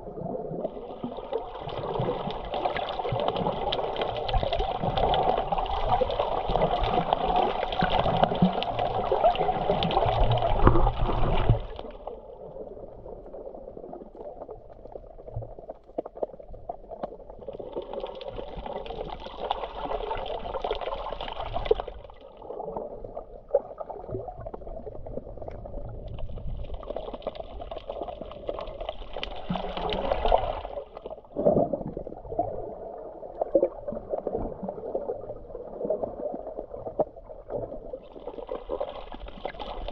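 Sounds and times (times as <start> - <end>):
sea water sloshing: 0.0 - 39.9.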